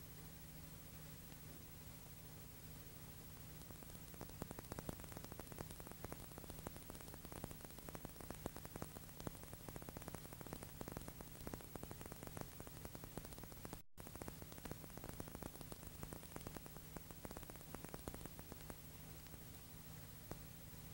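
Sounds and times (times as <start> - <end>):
crackling static clicks: 0.0 - 20.9
low hum and hiss: 0.0 - 20.9.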